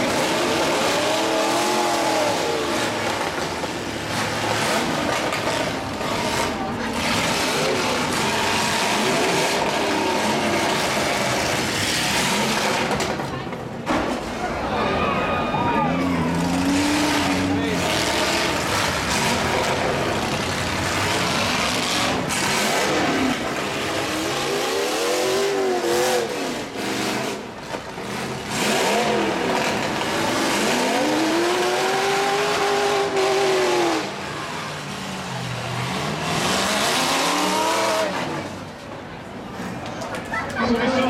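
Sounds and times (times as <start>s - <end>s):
truck engines revving hard: 0.0s - 41.0s.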